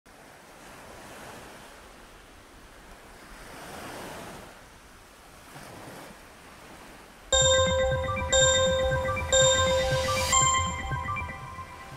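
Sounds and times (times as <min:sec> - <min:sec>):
ocean waves washing on shore: 0:00.1 - 0:11.9.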